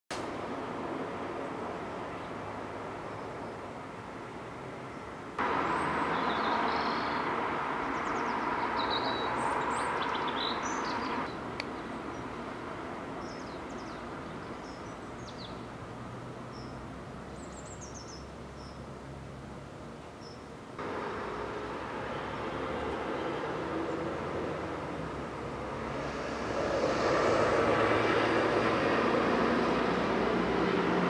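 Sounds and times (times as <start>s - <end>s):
songbirds chirping: 1.4s - 26.6s.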